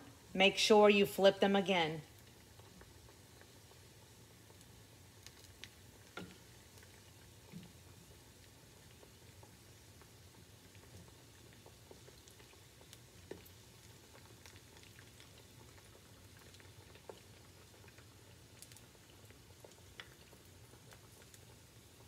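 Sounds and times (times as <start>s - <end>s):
food sizzling in oil: 2.1s - 22.0s.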